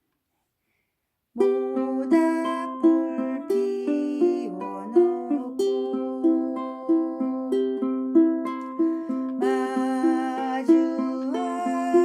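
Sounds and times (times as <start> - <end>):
ukulele fingerstyle arpeggio: 1.4 - 12.0.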